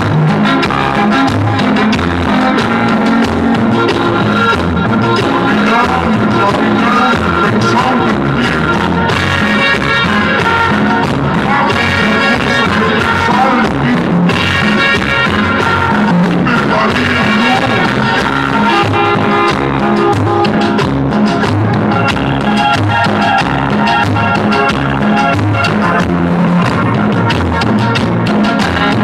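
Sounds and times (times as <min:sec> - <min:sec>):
loud dance music with singing: 0:00.0 - 0:29.0.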